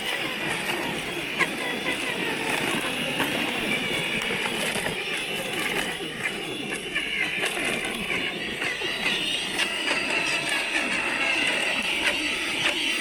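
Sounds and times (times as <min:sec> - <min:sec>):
electric motors whining under load: 0:00.0 - 0:13.0.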